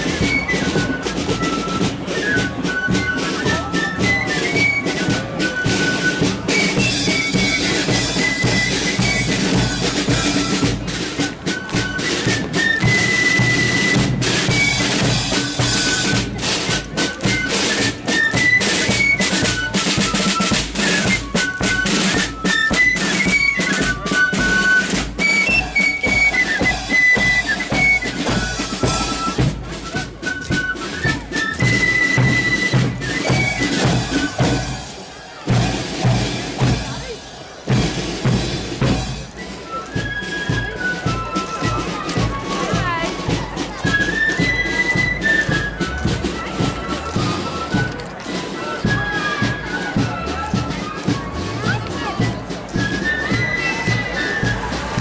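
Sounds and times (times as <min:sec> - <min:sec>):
flute melody: 0:00.0 - 0:55.0
snare drums: 0:00.0 - 0:55.0.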